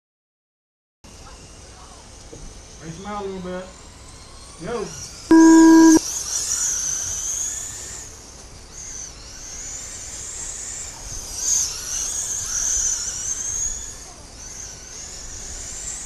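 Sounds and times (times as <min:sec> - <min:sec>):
radio-controlled cars whining: 0:02.6 - 0:16.0.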